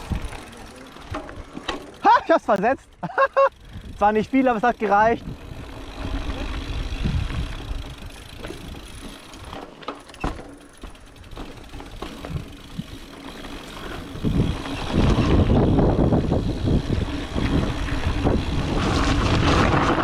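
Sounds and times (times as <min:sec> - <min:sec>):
bicycle freehub ratcheting: 0:00.0 - 0:20.0
bike tyres rumbling over rough ground: 0:00.0 - 0:20.0.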